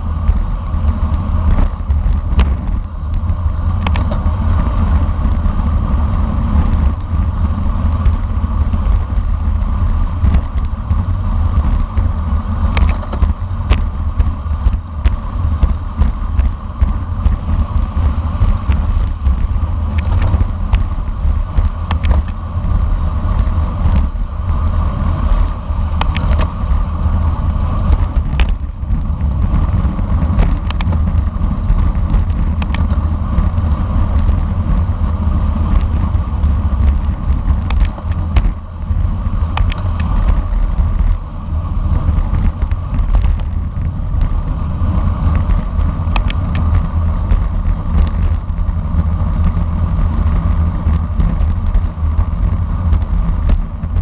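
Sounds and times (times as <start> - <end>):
bicycle clicks and rattles: 0.0 - 54.0
wind on microphone: 0.0 - 54.0.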